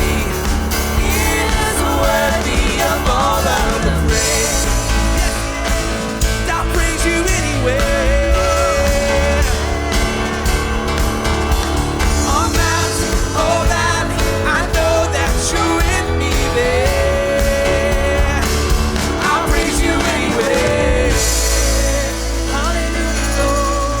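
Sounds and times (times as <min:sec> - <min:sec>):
live band playing: 0:00.0 - 0:24.0
sliding melody line: 0:00.0 - 0:24.0.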